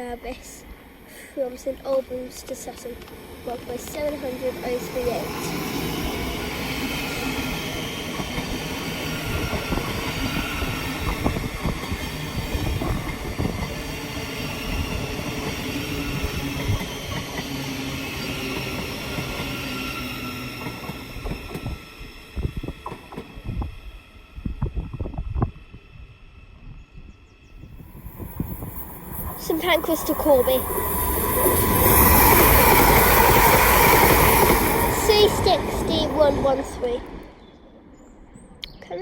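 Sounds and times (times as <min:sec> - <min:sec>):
train wheels rumbling on rail: 0:00.0 - 0:37.5.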